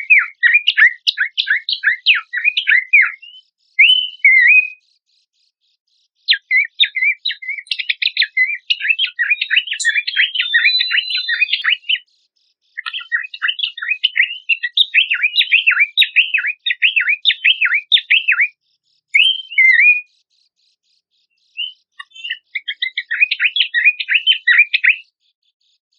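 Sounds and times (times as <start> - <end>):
songbird chattering and twittering: 0.0 - 25.9.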